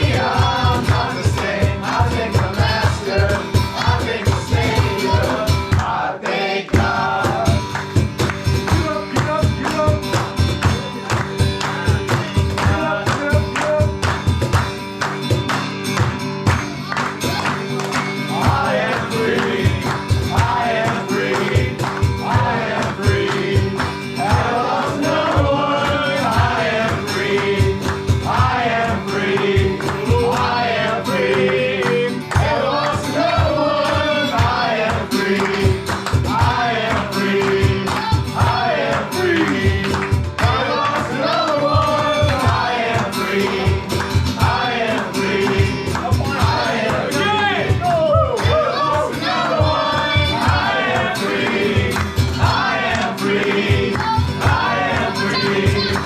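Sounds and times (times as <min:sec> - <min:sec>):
steady drum beat: 0:00.0 - 0:06.1, 0:06.7 - 0:56.0
voices singing a melody: 0:00.0 - 0:10.0, 0:11.7 - 0:13.7, 0:18.1 - 0:56.0.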